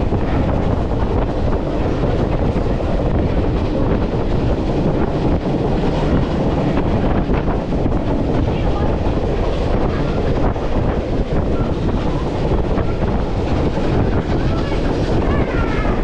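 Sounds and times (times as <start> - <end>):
train rumbling and rattling: 0.0 - 16.0
wind buffeting microphone: 0.0 - 16.0.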